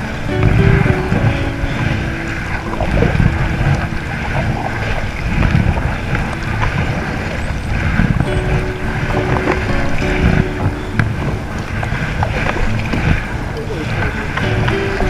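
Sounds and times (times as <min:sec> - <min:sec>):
kayak paddling water noise: 0:00.0 - 0:15.0
wind buffeting microphone: 0:00.0 - 0:15.0.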